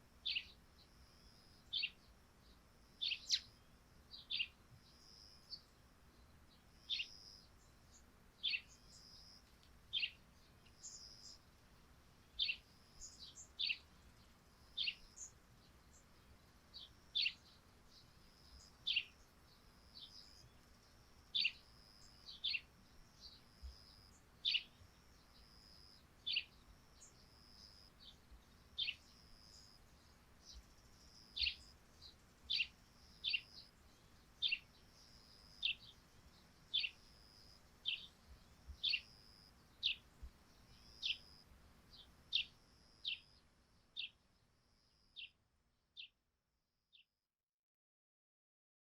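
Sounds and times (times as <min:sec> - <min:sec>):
faint steady hiss: 0:00.0 - 0:46.0
sparrows chirping: 0:00.2 - 0:11.6, 0:12.2 - 0:45.4, 0:46.0 - 0:46.2.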